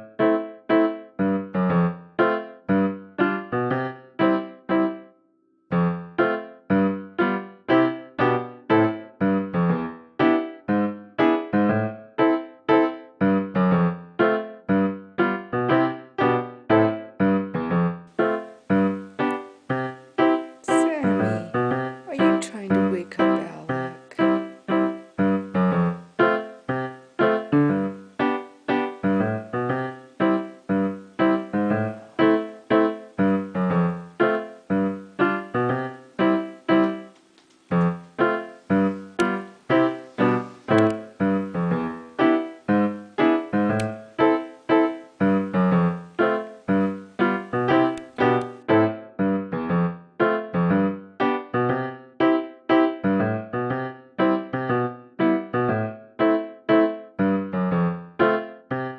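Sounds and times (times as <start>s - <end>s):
gentle piano melody: 0.0s - 58.9s.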